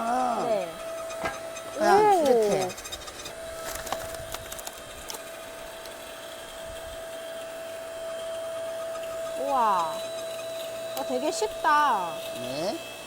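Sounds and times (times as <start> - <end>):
log splitter machine whine: 0.0 - 13.0.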